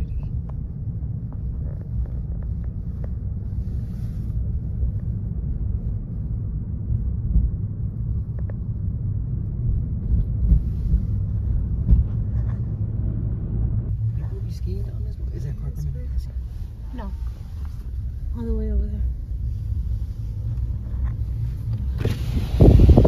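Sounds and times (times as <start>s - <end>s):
car driving rumble: 0.0s - 23.0s.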